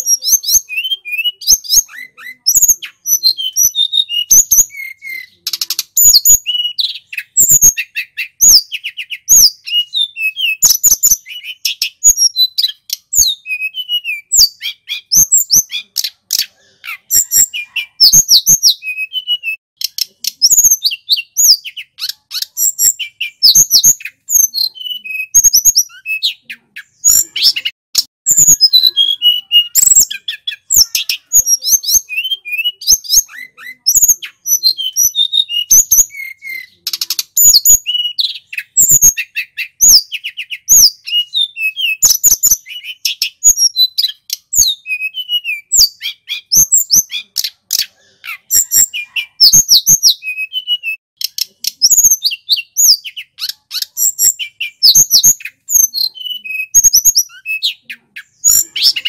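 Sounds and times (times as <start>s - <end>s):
bird singing whistles and chirps: 0.0s - 59.0s.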